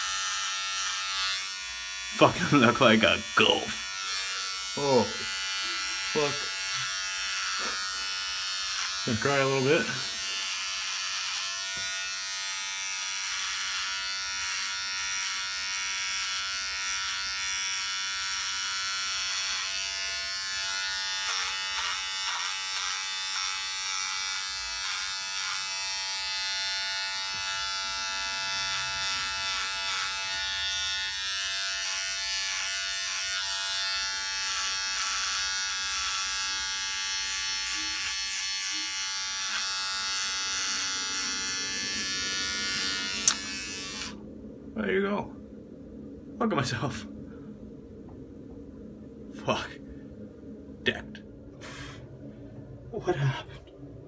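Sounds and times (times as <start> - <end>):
electric shaver buzzing: 0.0 - 44.2.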